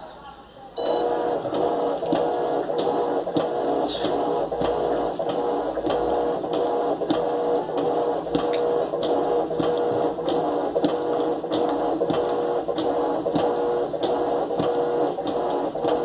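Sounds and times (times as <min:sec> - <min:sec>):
washing machine agitating: 0:00.8 - 0:16.0.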